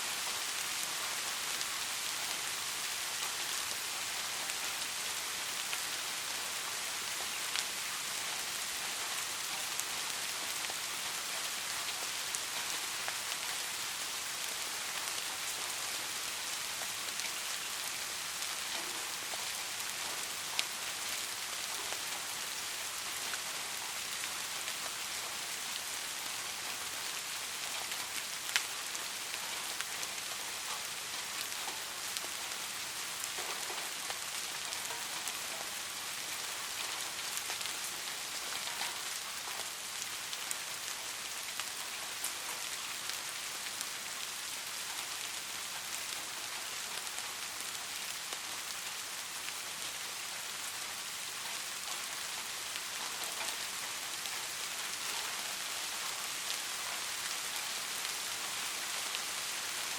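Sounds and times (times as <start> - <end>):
raindrops pattering: 0.0 - 59.9
steady rain: 0.0 - 59.9.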